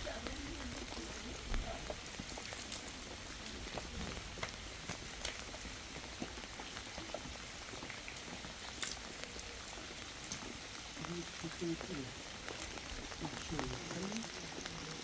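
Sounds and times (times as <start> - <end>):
raindrops tapping close by: 0.0 - 15.0
steady rain falling: 0.0 - 15.0.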